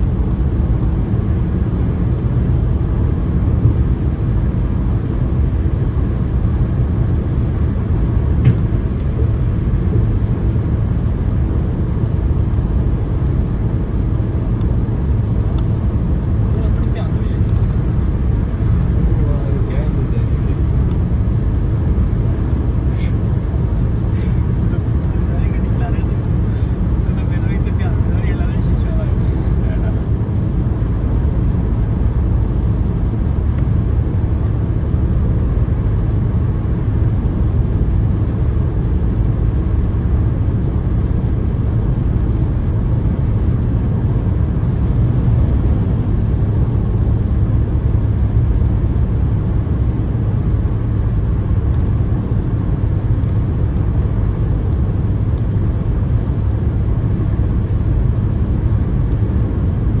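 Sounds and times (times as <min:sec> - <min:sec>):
road and wind noise in car: 0:00.0 - 1:00.0.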